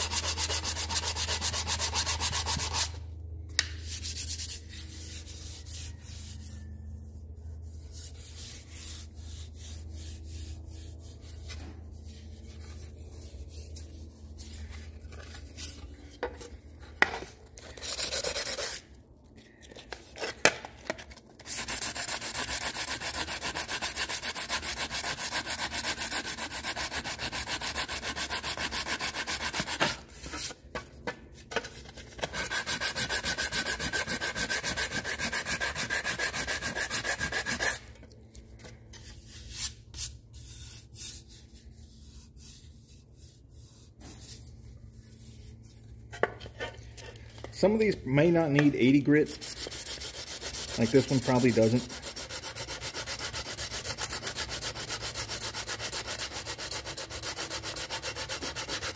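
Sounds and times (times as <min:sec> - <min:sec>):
sandpaper rubbing on metal: 0:00.0 - 0:03.0, 0:03.8 - 0:15.8, 0:17.7 - 0:18.9, 0:21.4 - 0:30.6, 0:31.8 - 0:37.9, 0:38.9 - 0:45.8, 0:47.6 - 0:58.9.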